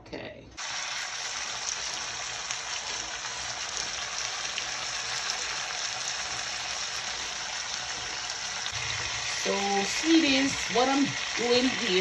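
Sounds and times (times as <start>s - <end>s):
meat sizzling in a pan: 0.6s - 12.0s.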